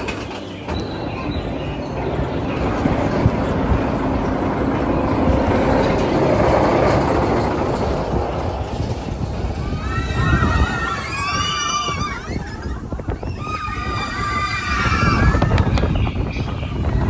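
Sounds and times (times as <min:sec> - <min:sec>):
roller coaster car rumbling: 0:00.0 - 0:17.0.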